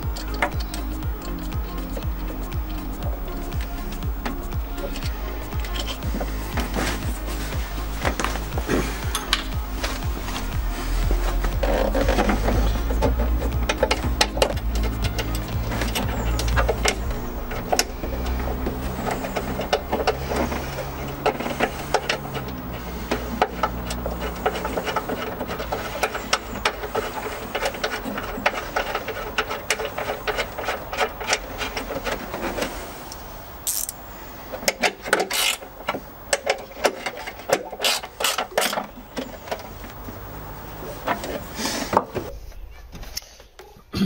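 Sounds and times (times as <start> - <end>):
tools and metal parts knocking: 0.0 - 32.8, 33.7 - 42.3
hand ratchet clicking: 0.0 - 39.7.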